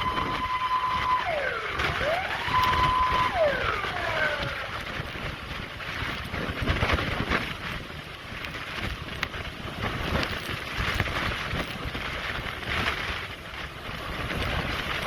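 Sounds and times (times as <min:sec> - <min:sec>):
strong wind gusting: 0:00.0 - 0:15.0.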